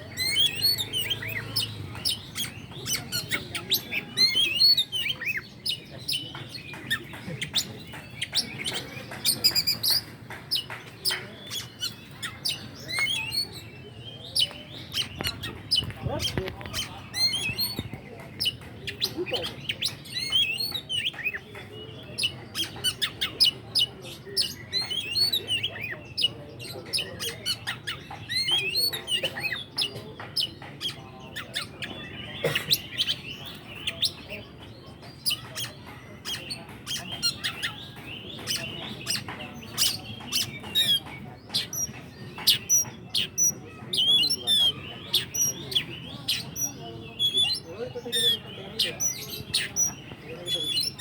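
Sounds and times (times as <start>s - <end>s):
songbird singing: 0.0s - 51.0s.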